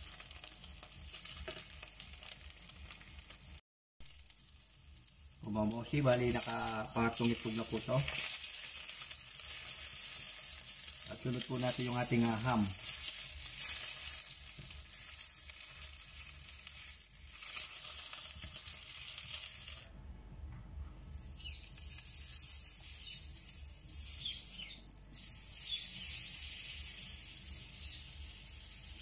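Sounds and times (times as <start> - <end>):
butter sizzling in pan: 0.0 - 19.9, 21.2 - 29.0
egg frying in fat: 0.0 - 19.9, 21.1 - 29.0.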